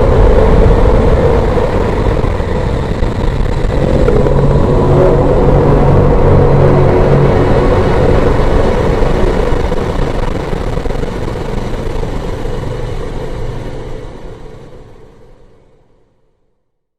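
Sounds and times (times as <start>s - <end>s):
engine-like rumble: 0.0s - 15.8s.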